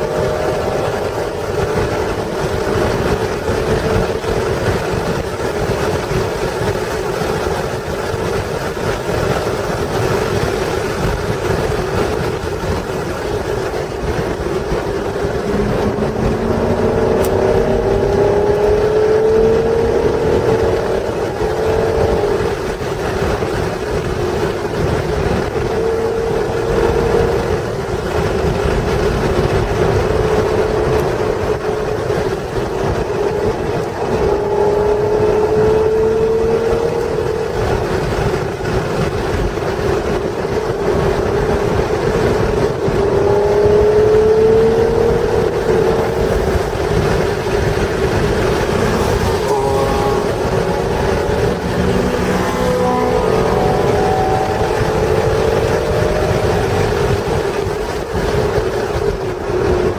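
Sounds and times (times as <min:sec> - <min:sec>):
car engine revving: 0:00.0 - 0:59.9
wind and tyre noise: 0:00.0 - 0:59.9.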